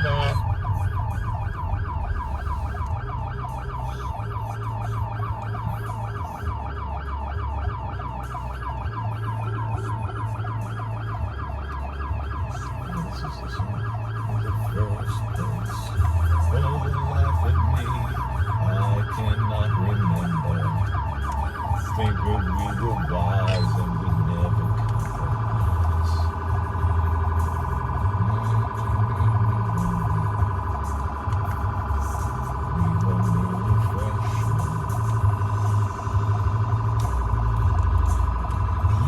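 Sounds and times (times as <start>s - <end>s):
emergency siren yelping: 0.0s - 39.0s.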